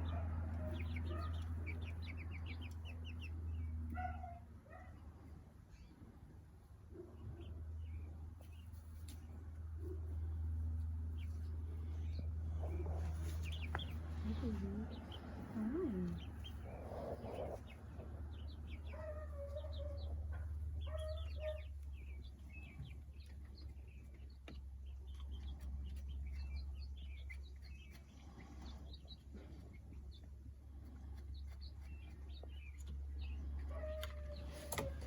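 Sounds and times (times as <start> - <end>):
chicks peeping and clucking: 0.0 - 35.0.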